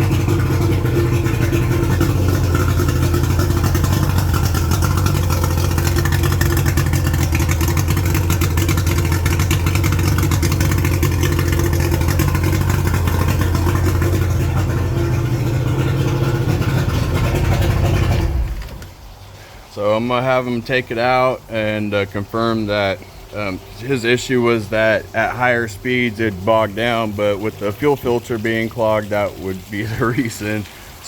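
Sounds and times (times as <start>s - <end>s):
outboard motor running steadily: 0.0s - 19.0s, 20.0s - 31.0s.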